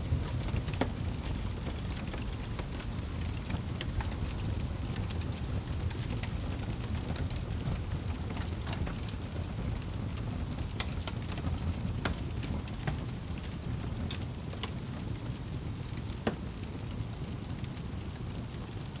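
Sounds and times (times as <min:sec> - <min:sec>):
low rumble of flame: 0:00.0 - 0:19.0
wood fire crackling: 0:00.0 - 0:19.0.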